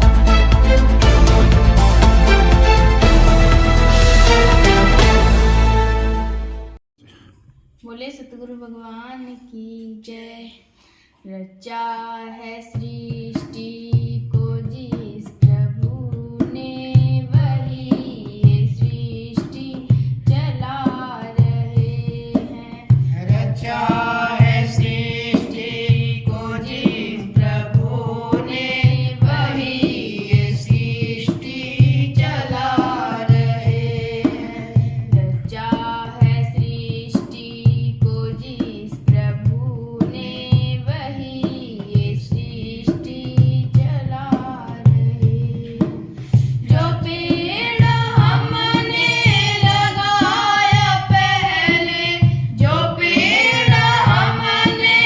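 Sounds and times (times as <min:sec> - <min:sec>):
steady drum beat: 0:00.0 - 0:06.4, 0:12.8 - 0:55.0
woman singing devotional song: 0:08.7 - 0:55.0.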